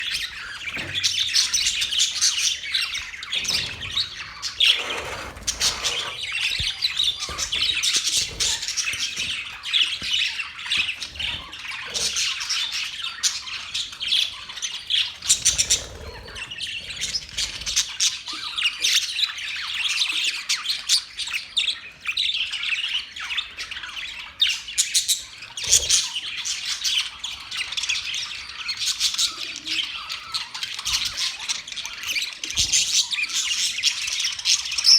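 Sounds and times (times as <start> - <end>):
parrots chirping and squawking: 0.0 - 34.9.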